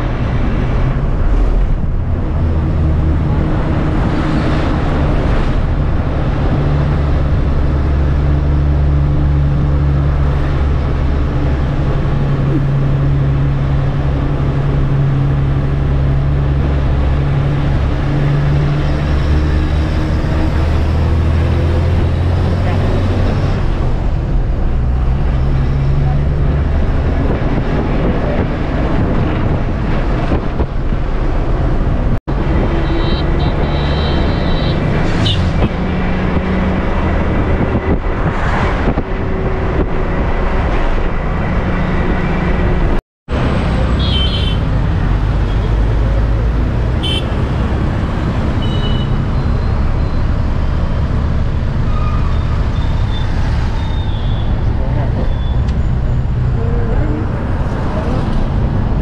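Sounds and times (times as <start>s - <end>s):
bus engine: 0.0s - 59.0s
road noise: 0.0s - 59.0s.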